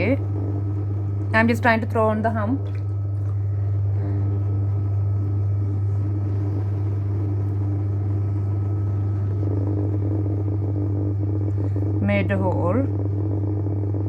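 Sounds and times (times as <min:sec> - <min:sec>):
pottery wheel motor humming: 0:00.0 - 0:14.0.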